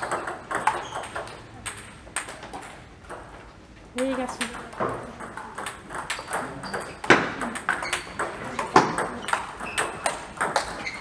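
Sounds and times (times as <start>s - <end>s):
table tennis ball clicking: 0.0s - 3.4s, 4.0s - 11.0s.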